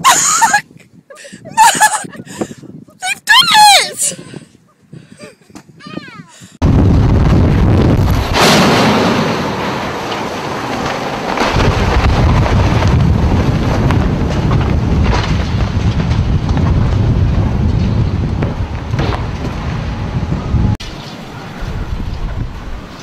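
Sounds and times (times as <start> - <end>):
storm wind buffeting microphone: 0.0 - 23.0.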